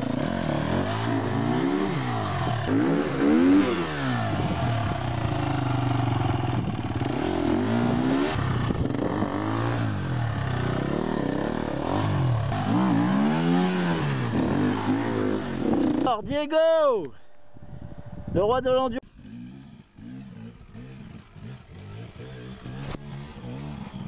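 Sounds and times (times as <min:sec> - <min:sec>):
dirt bike engine revving: 0:00.0 - 0:16.2, 0:19.0 - 0:24.0.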